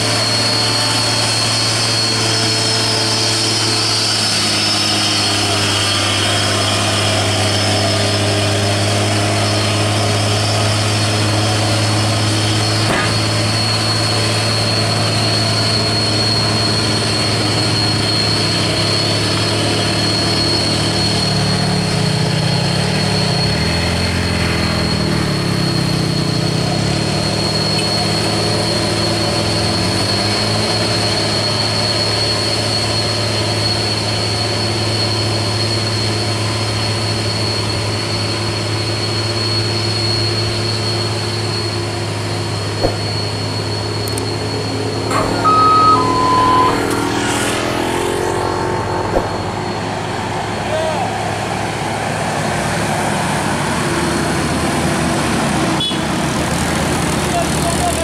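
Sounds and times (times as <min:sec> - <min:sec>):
diesel truck engine under load: 0:00.0 - 0:34.5, 0:37.4 - 0:58.0
steady high whine: 0:00.0 - 0:58.0.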